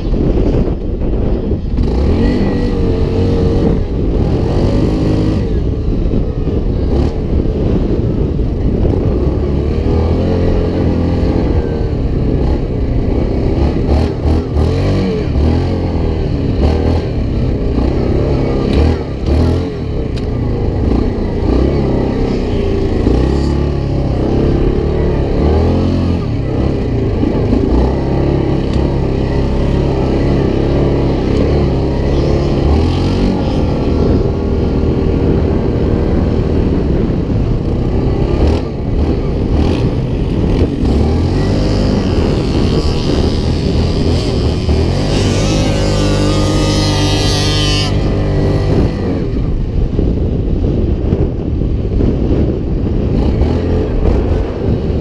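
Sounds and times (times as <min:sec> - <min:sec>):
off-road vehicle engine revving: 0:01.6 - 0:50.8, 0:53.0 - 0:55.0.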